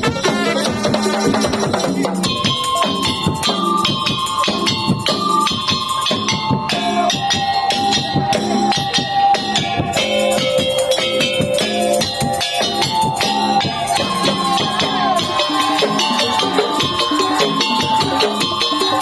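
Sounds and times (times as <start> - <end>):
drums and jingling percussion: 0.0 - 19.0.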